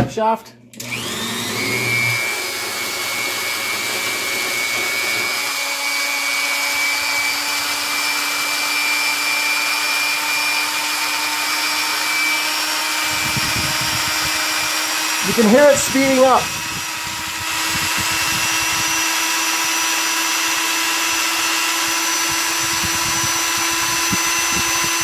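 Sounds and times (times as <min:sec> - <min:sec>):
rotary tool whining: 0:00.8 - 0:25.0.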